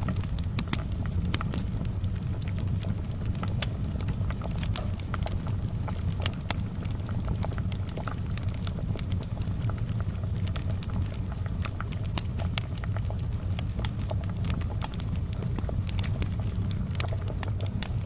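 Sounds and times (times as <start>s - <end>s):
fire crackling with pops: 0.0s - 18.0s
low fire rumble: 0.0s - 18.0s.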